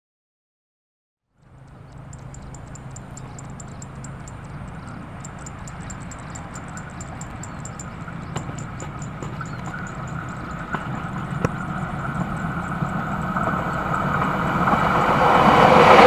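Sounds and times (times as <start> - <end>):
faint high-pitched ticking: 1.4 - 14.8
diesel train engine humming: 1.4 - 16.0.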